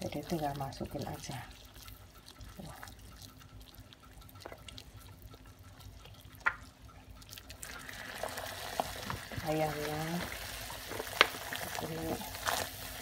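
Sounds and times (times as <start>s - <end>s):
water drips: 0.0s - 12.2s
boiling water bubbling: 0.0s - 13.0s.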